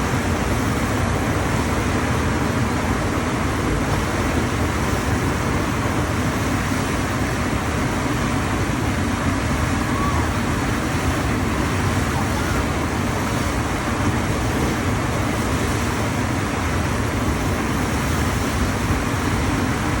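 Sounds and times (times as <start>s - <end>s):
rushing water on wave machine: 0.0s - 20.0s.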